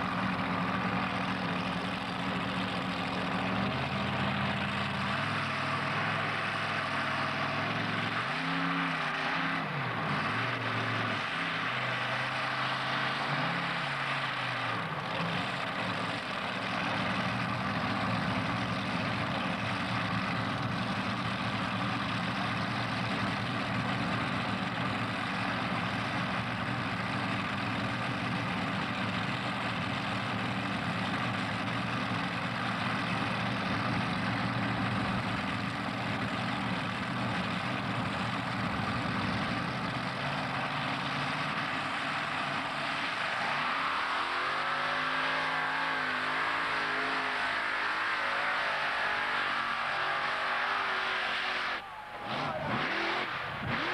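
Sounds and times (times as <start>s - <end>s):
tractor engine running and revving: 0.0s - 53.9s.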